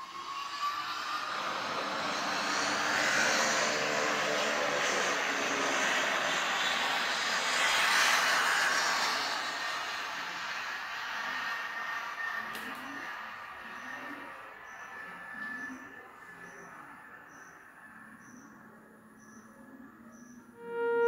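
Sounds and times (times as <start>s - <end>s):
distant engine drone: 0.0s - 21.0s.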